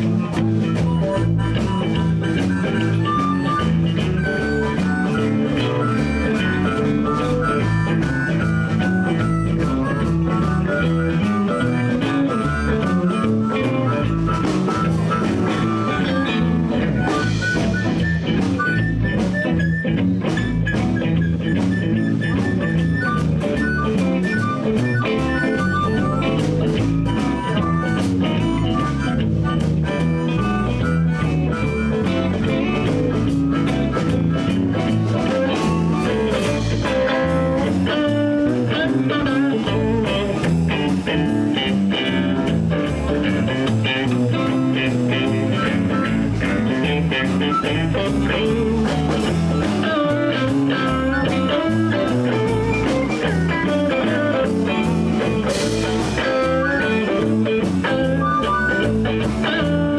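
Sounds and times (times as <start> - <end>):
bass guitar: 0.0 - 59.9
blues harmonica solo: 0.0 - 59.9
drums: 0.0 - 59.9
electric guitar: 0.0 - 59.9.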